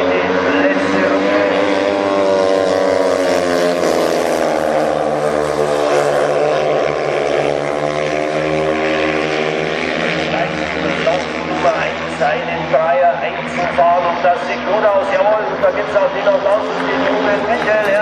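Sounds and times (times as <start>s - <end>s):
motorcycles racing at high revs: 0.0s - 18.0s.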